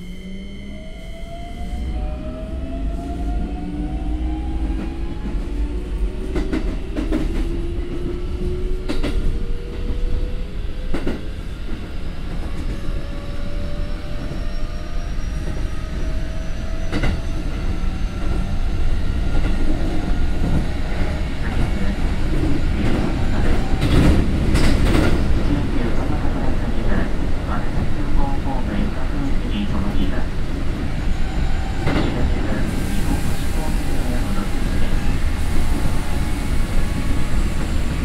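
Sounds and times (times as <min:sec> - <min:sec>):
train running rumble: 0:01.7 - 0:14.6, 0:15.4 - 0:38.0.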